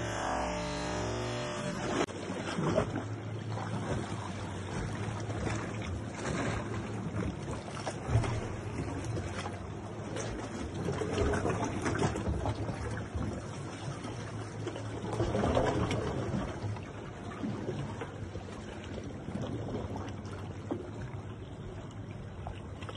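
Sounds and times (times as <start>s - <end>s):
water lapping against kayak hull: 0.0s - 22.9s.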